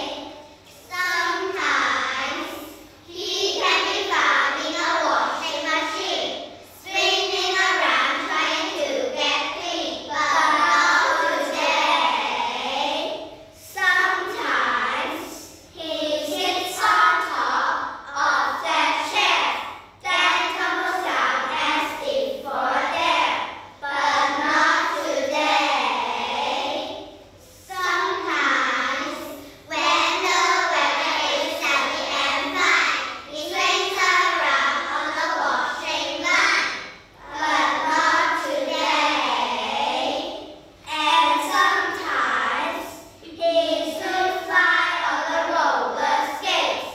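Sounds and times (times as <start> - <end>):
children reciting in unison: 0.0 - 46.9.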